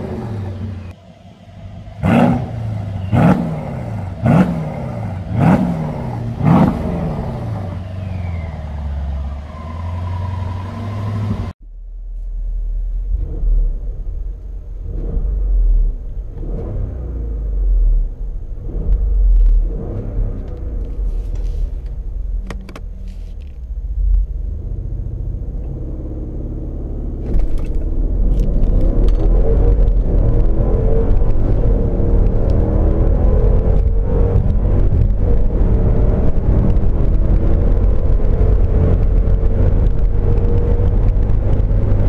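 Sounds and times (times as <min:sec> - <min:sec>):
car engine revving: 0:00.0 - 0:11.6, 0:12.5 - 0:42.0.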